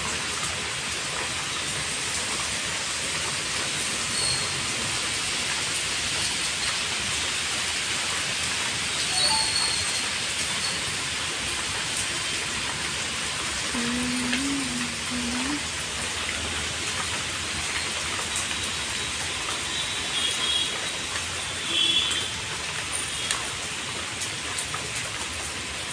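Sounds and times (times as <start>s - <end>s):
heavy rain on pavement: 0.0s - 25.9s.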